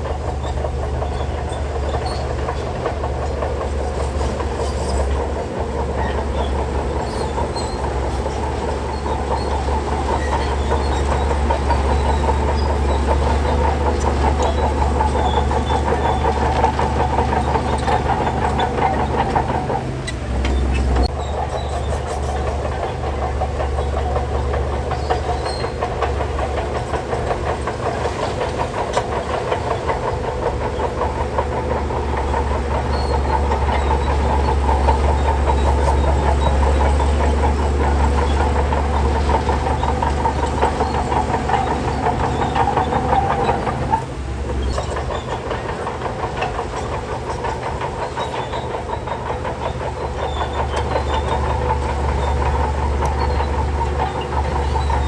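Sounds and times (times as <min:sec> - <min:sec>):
bulldozer diesel engine running: 0:00.0 - 0:55.0
steel tracks clanking: 0:00.0 - 0:55.0.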